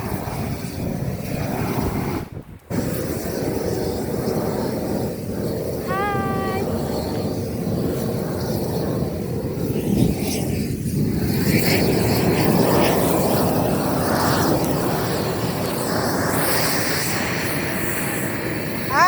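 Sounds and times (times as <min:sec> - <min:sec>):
blowtorch flame rushing: 0:00.0 - 0:19.0.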